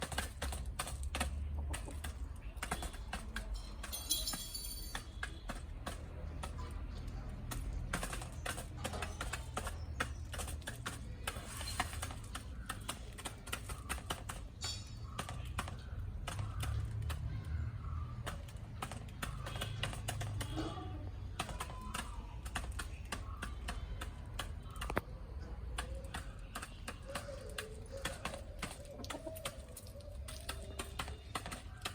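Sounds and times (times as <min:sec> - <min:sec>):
chickens clucking: 0:00.0 - 0:04.1, 0:06.0 - 0:31.9
beaks tapping on feed: 0:00.0 - 0:31.9.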